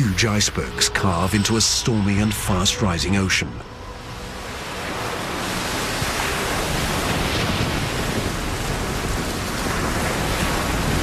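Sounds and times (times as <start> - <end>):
heavy surf breaking waves: 0.0 - 11.0.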